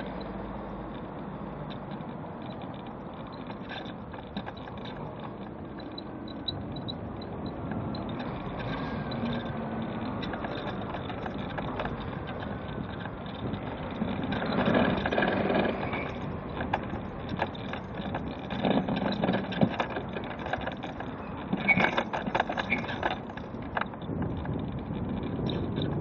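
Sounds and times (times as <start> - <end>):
road traffic passing: 0.0 - 26.0
small knocks and clicks: 0.0 - 26.0.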